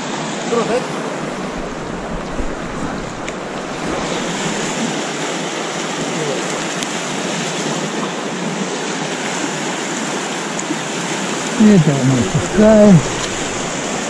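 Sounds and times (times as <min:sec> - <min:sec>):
river water rushing past rocks: 0:00.0 - 0:14.0.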